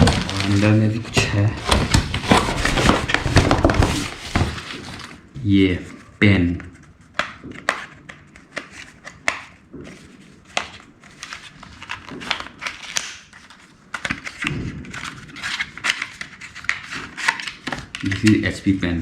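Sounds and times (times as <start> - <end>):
packaging crinkling and rustling: 0.0 - 5.3, 7.7 - 18.6.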